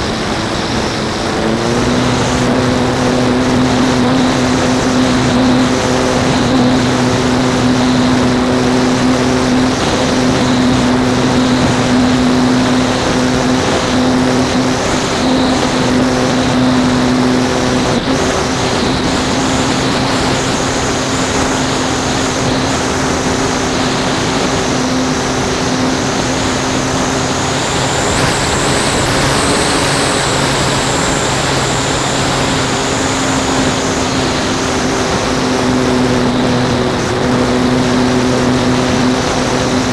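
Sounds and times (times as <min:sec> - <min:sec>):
model plane motor whine: 0:00.0 - 0:39.9
rushing air: 0:00.0 - 0:39.9.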